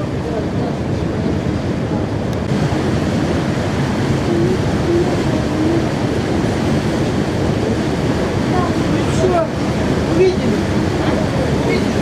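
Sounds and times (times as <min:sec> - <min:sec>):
motor ship engine rumble: 0:00.0 - 0:12.0.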